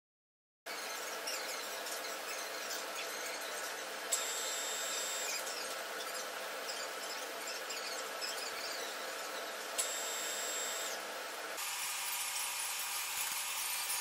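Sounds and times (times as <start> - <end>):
milling machine running: 0.7 - 14.0.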